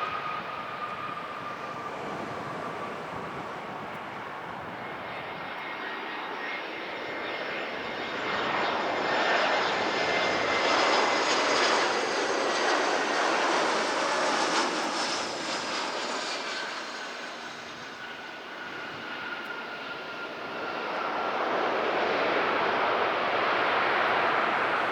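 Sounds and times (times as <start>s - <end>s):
jet airliner passing: 0.0s - 24.9s.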